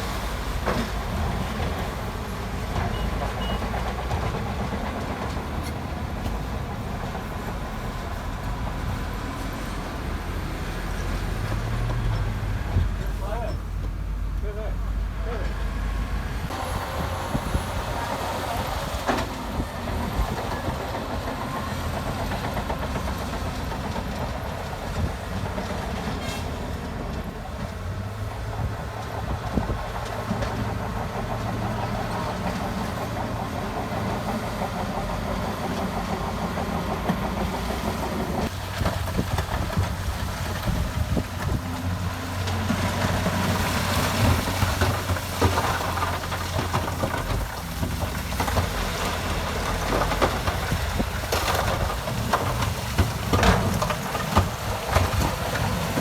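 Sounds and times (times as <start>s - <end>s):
bulldozer diesel engine running: 0.0s - 56.0s
tracks clanking and rattling: 0.0s - 56.0s.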